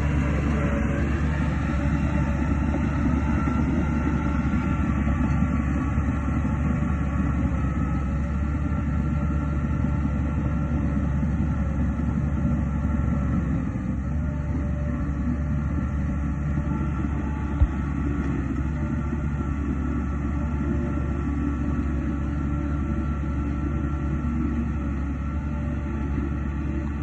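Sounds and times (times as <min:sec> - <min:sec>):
diesel engine droning: 0:00.0 - 0:27.0
faint steady whine: 0:00.0 - 0:27.0.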